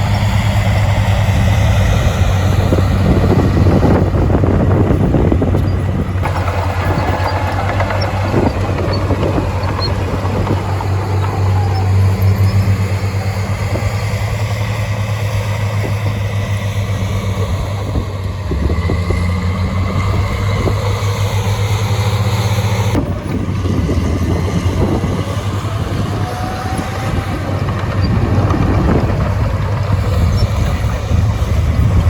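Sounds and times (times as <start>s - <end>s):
diesel engine of heavy machinery: 0.0s - 32.0s.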